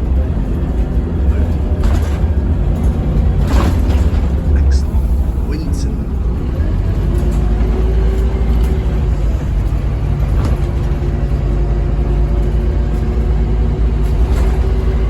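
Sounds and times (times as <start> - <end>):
bus diesel engine rumble: 0.0 - 15.0
constant whine: 0.0 - 15.0.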